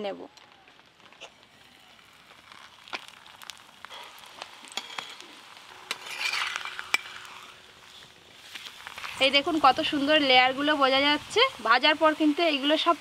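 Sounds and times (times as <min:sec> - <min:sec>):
flatbread sizzling in oil: 0:00.0 - 0:13.0
oil popping and ticking: 0:00.3 - 0:13.0.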